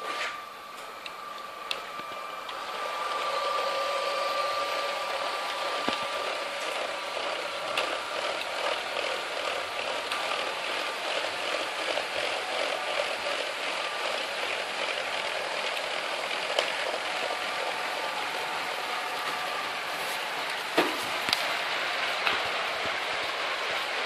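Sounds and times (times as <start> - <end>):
toy train motor whine: 0.0 - 24.0.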